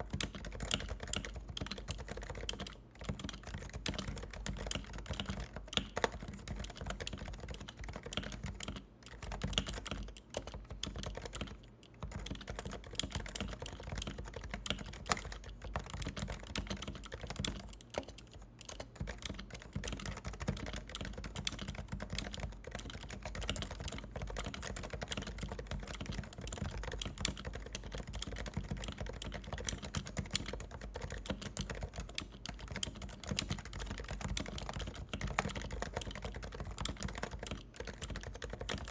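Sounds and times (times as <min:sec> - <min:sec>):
keyboard typing soft key clicks: 0:00.1 - 0:38.9.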